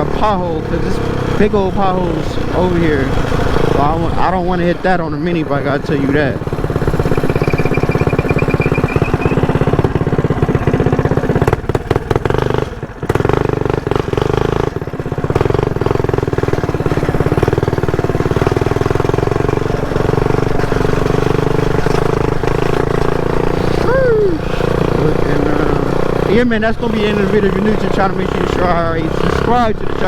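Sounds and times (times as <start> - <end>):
small motorbike engine revving: 0.0 - 30.0.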